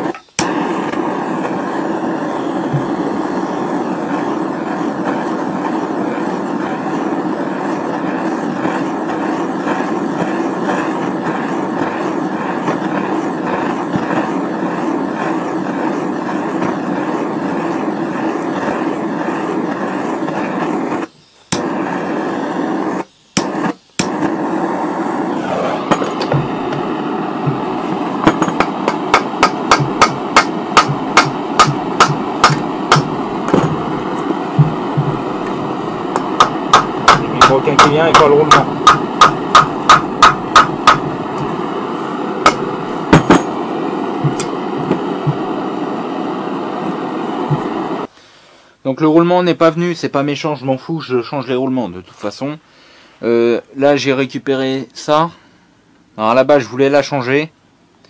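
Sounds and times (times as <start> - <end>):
blowtorch flame hissing: 0.0 - 49.3.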